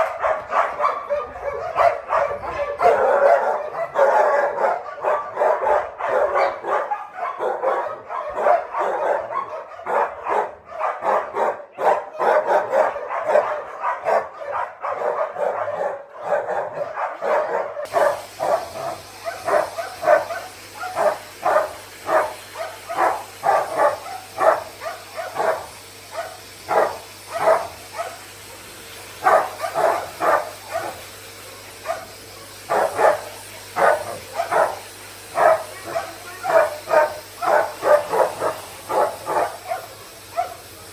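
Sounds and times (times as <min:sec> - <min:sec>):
dogs barking: 0:00.0 - 0:40.9.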